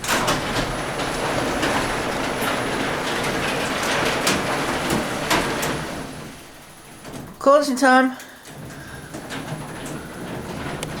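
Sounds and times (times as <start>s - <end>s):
garage door clattering on tracks: 0.0s - 11.0s
garage door opener motor hum: 0.0s - 11.0s.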